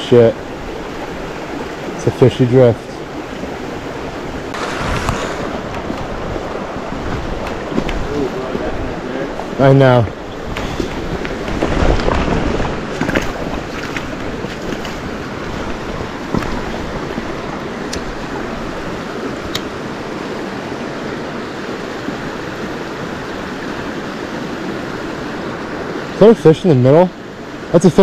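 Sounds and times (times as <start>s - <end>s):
creek water flowing: 0.0s - 28.0s
wind rumble on microphone: 2.9s - 26.2s.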